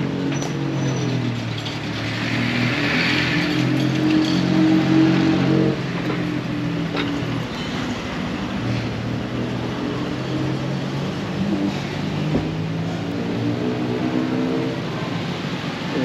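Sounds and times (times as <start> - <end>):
car engines passing: 0.0 - 16.0
motorbike engines passing: 0.0 - 16.0
road noise hum: 0.0 - 16.0.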